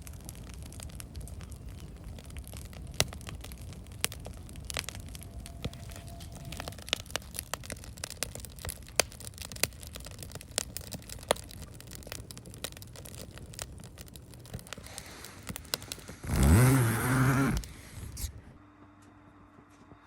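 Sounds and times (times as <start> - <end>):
rush of burning fire: 0.0 - 18.6
wood fire crackling: 0.0 - 18.6.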